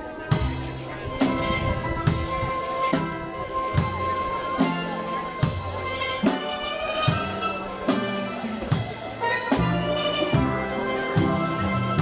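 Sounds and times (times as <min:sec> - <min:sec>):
low drum beat: 0:00.0 - 0:12.0
steel pan band playing: 0:00.0 - 0:12.0.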